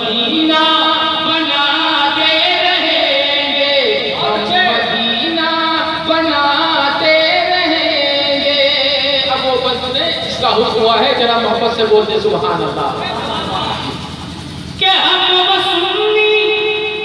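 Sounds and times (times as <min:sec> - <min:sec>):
man singing through microphone: 0:00.0 - 0:12.0, 0:14.8 - 0:17.0.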